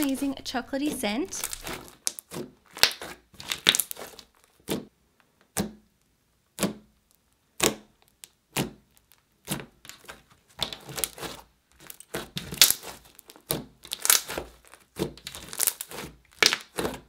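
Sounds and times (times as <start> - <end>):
slime popping and squishing: 0.0 - 17.0.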